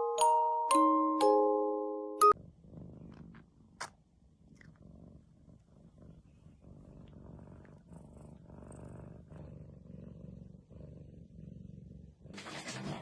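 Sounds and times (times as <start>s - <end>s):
cat purring: 2.3s - 13.0s.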